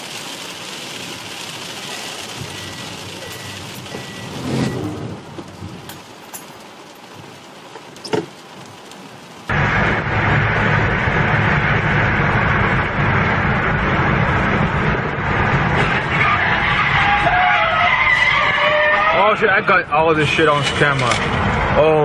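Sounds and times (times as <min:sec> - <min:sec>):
car engine and tyre noise: 0:00.0 - 0:22.0
rain on windscreen: 0:00.0 - 0:22.0.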